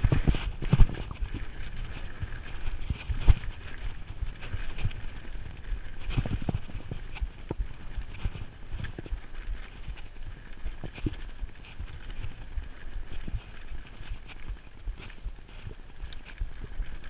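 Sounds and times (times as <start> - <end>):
bike tyres crunching over rock: 0.0 - 17.0.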